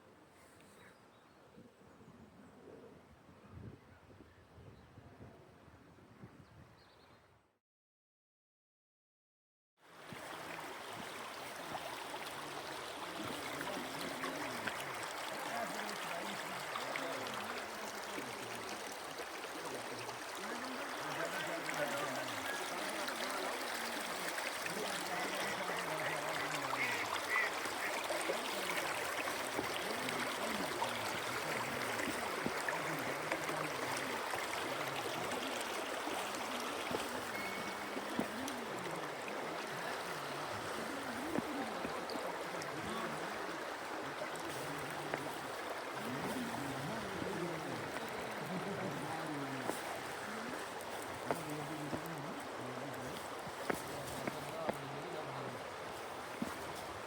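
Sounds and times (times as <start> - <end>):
stream flowing: 9.8 - 57.0
faint voices: 10.4 - 57.0.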